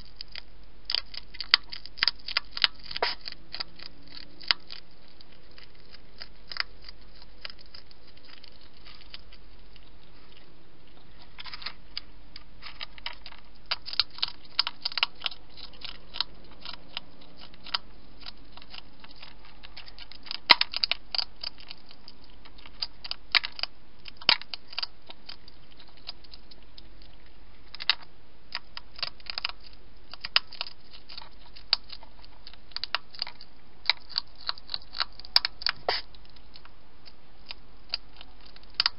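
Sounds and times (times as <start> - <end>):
hedgehog crunching food: 0.0 - 38.9.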